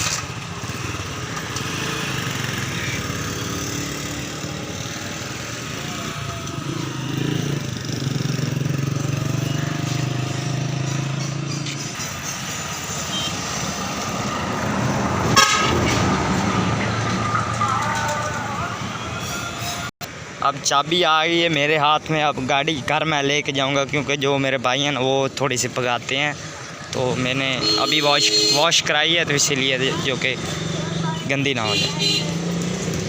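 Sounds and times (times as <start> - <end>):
street traffic noise: 0.0 - 33.0.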